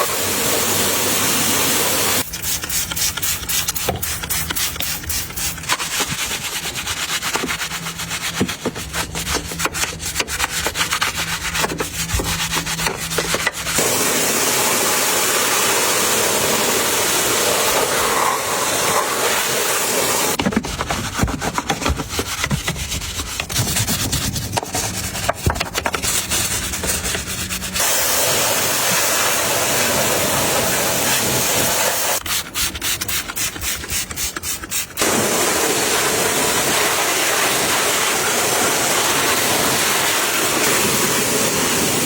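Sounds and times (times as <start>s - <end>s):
rubbing and scrubbing strokes: 2.1s - 14.1s, 16.2s - 42.0s.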